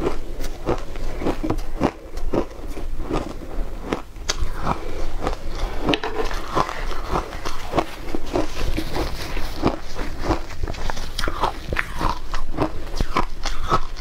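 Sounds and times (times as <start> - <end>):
ice crunching while chewed: 0.0 - 14.0.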